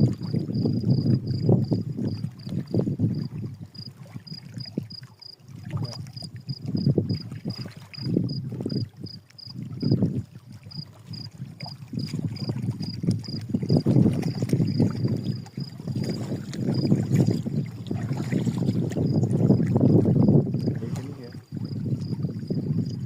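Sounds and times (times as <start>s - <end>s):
water noise: 0.0s - 23.0s
wind buffeting microphone: 0.0s - 23.0s.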